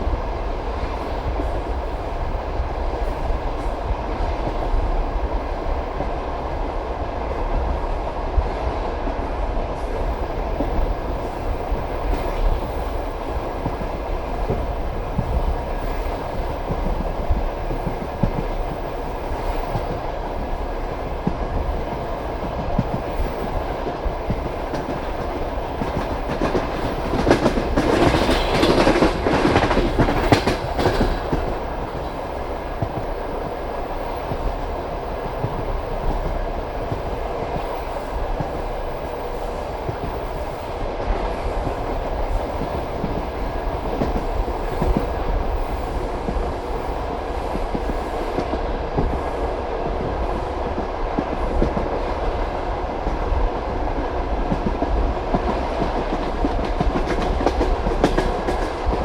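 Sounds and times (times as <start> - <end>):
train carriage rumble: 0.0 - 59.0.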